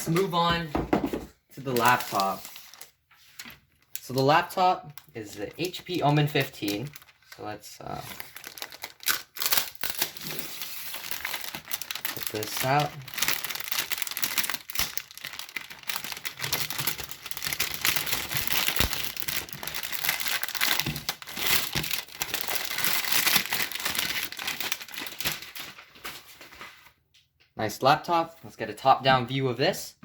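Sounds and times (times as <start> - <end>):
packaging crinkling and rustling: 1.6 - 27.0.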